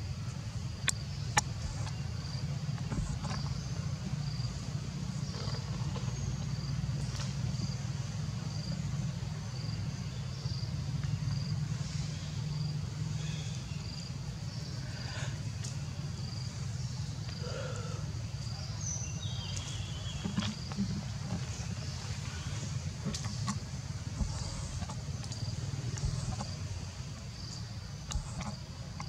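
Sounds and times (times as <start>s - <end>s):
faint insect chirp: 0.0s - 29.0s
low outdoor rumble: 0.0s - 29.0s.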